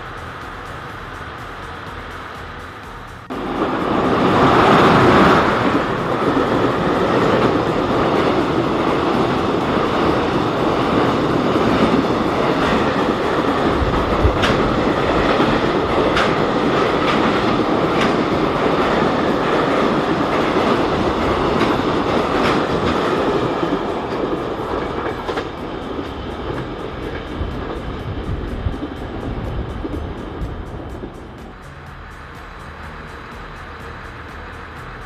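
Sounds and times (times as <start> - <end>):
freight train rumbling: 0.0 - 35.0
wheels clicking over rail joints: 0.0 - 35.0.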